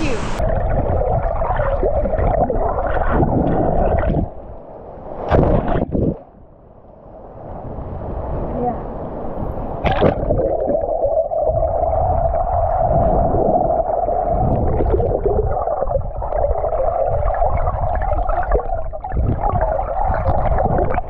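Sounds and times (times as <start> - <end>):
water splash: 0.0 - 4.5, 5.1 - 6.3, 9.7 - 21.0
steady underwater drone: 0.0 - 5.4, 9.0 - 21.0
underwater gurgling and rumble: 0.0 - 7.4, 9.2 - 21.0.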